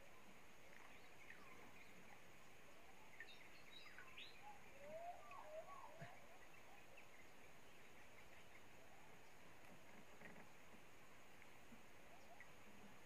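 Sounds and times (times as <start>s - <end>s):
faint wild bird calls: 0.0s - 13.0s
steady background hiss: 0.0s - 13.0s.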